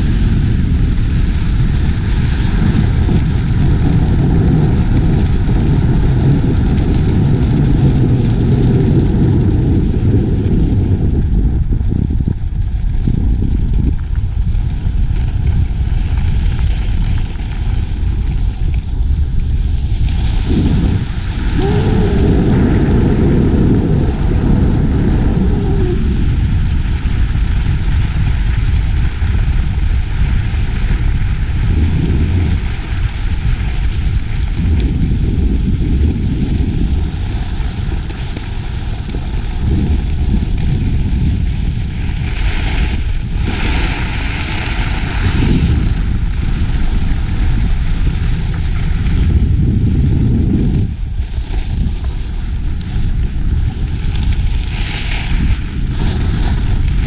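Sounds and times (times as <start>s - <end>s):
wind rumbling on microphone: 0.0s - 57.0s
skis scraping over snow: 0.1s - 57.0s.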